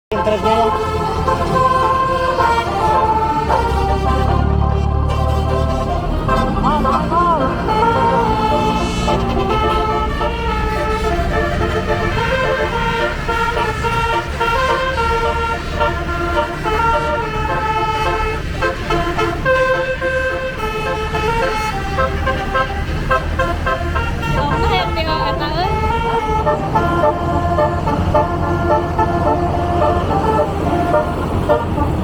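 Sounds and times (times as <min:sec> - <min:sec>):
bus horn playing melody: 0:00.1 - 0:32.0
low engine rumble: 0:00.1 - 0:32.0.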